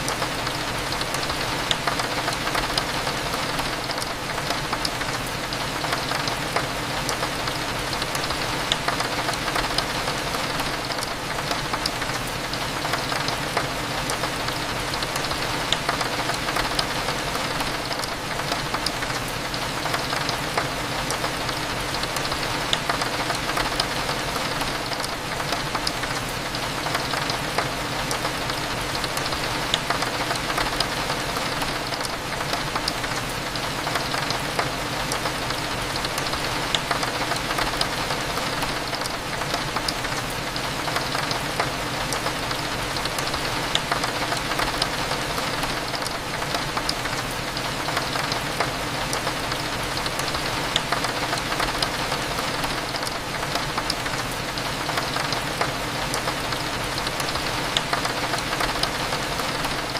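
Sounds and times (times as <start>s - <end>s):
raindrops hitting a window: 0.0s - 59.9s
steady rain: 0.0s - 59.9s.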